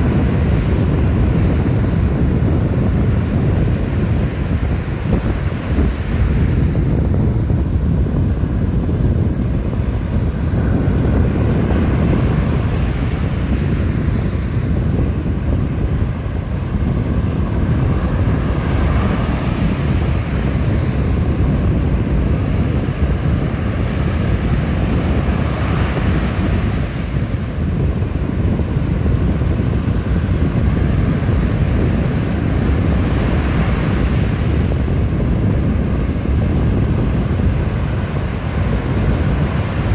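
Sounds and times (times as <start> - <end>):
wind blowing on microphone: 0.0 - 39.9.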